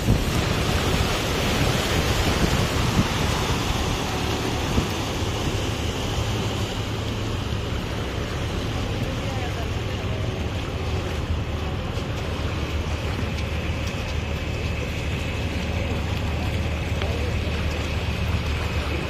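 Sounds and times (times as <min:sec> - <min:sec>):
boat engine drone: 0:00.0 - 0:19.0
river water rushing: 0:00.0 - 0:19.0
wind buffeting microphone: 0:00.0 - 0:19.0.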